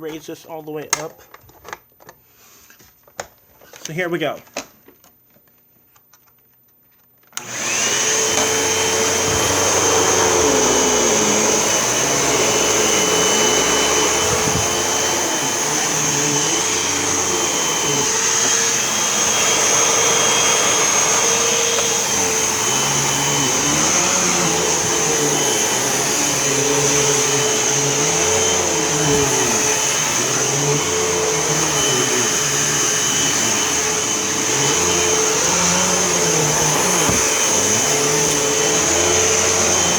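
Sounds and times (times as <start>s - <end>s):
vacuum cleaner whining on carpet: 7.4s - 39.9s.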